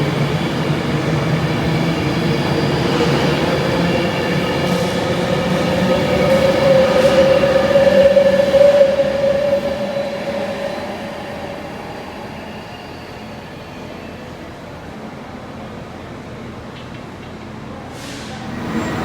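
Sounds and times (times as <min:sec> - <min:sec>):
train passing with whine: 0:00.0 - 0:19.0.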